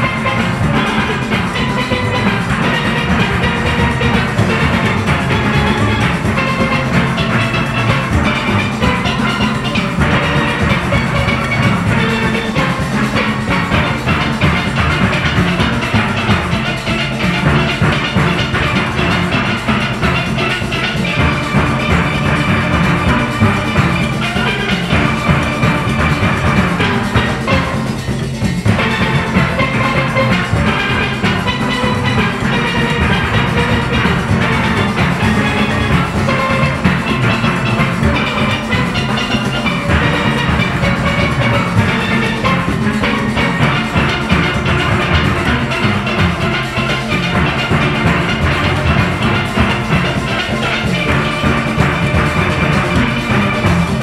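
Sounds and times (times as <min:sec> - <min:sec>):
drum kit and percussion: 0:00.0 - 0:54.0
steel orchestra playing calypso: 0:00.0 - 0:54.0.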